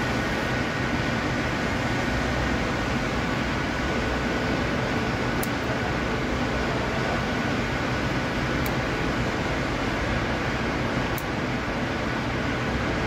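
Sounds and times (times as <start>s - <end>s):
mechanical drone with hiss: 0.0s - 13.0s.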